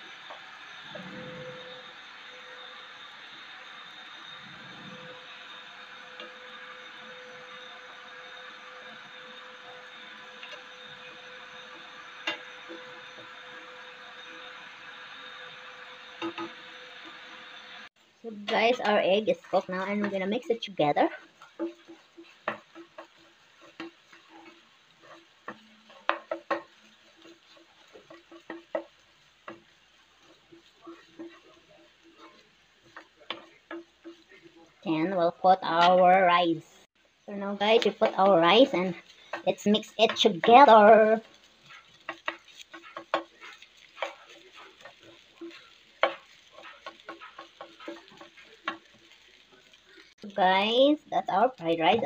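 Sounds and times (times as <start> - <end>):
light sizzle: 0.0 - 52.0
spatula scraping frying pan: 4.2 - 17.8, 18.4 - 36.3, 37.4 - 50.4.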